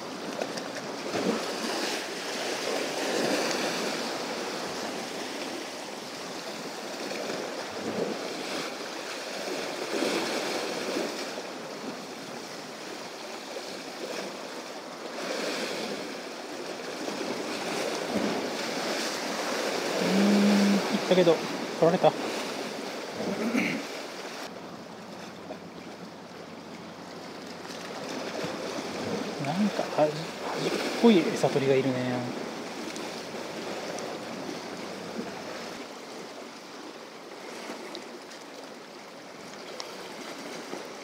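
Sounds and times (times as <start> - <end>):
waves washing against rocks: 0.0 - 24.5, 27.2 - 41.0.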